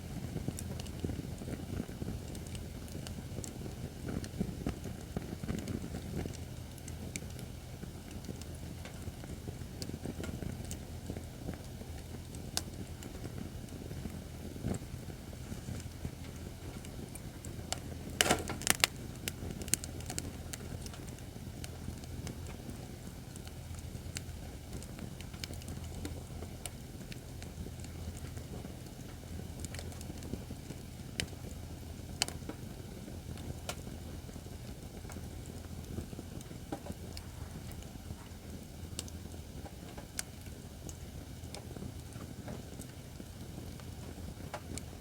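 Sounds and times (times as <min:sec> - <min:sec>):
firewood crackling and popping: 0:00.0 - 0:45.0
low fire rumble: 0:00.0 - 0:45.0.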